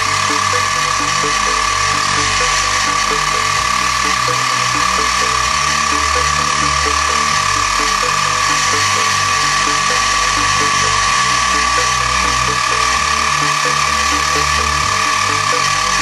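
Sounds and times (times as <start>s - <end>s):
milling spindle high whine: 0.0s - 16.0s
stepper motors humming: 0.0s - 16.0s.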